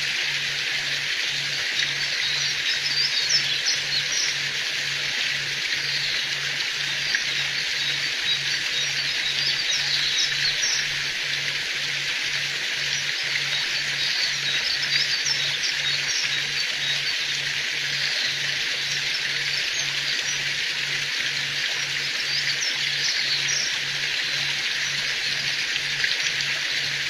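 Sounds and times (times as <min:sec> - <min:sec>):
running water hiss: 0:00.0 - 0:27.0.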